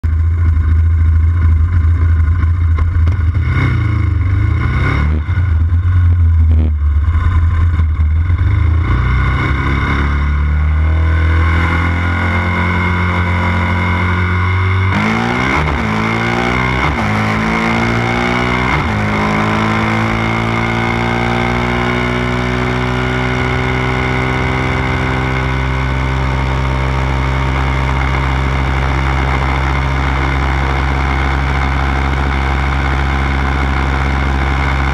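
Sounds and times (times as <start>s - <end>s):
quad engines revving: 3.3s - 5.7s, 8.2s - 34.9s.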